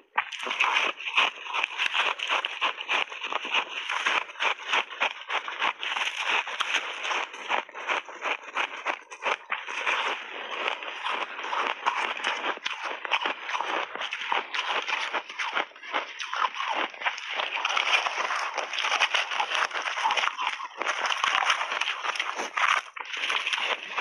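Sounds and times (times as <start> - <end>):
crunching and chewing ice: 0.0 - 24.0.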